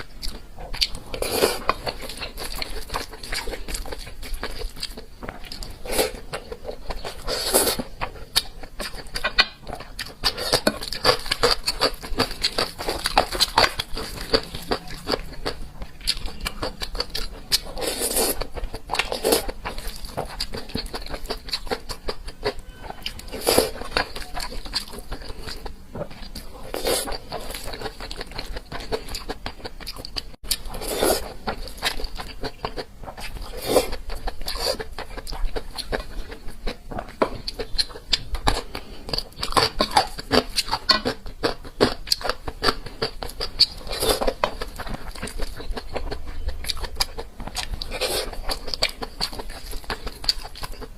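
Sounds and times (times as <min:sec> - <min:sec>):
close chewing and wet mouth sounds: 0:00.0 - 0:50.9.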